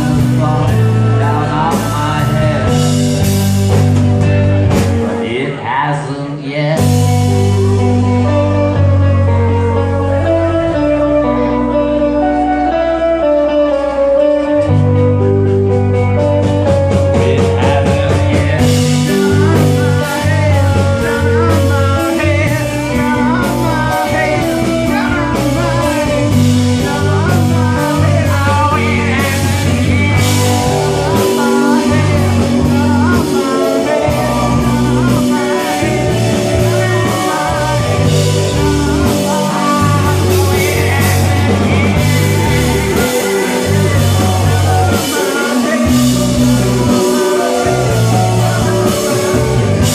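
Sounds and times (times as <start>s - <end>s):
person singing: 0.0s - 14.9s, 15.7s - 49.9s
bass notes: 0.0s - 49.9s
electric guitar: 0.0s - 49.9s.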